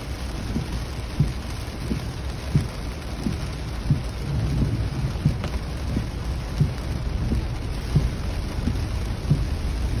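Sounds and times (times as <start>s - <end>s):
heavy rain on a vehicle: 0.0s - 10.0s
tyres rumbling on wet road: 0.0s - 10.0s
windshield wipers thumping: 0.0s - 10.0s.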